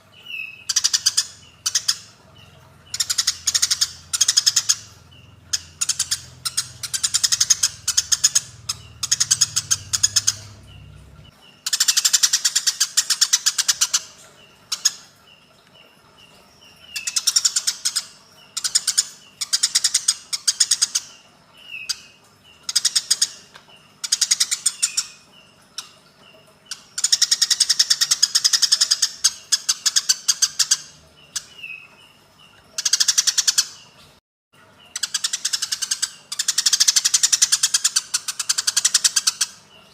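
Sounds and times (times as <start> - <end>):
sparrows harsh chattering: 0.0 - 33.9.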